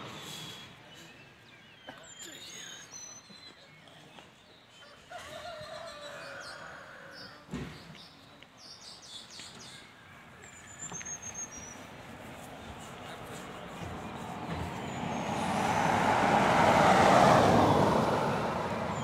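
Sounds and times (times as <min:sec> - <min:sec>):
bird chirps and calls: 0:00.0 - 0:15.6.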